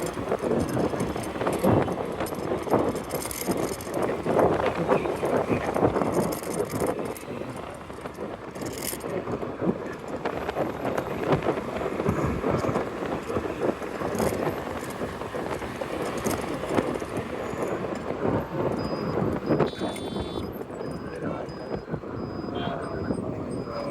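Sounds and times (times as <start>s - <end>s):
road and traffic noise: 0.0s - 23.9s
wind buffeting microphone: 0.0s - 23.9s.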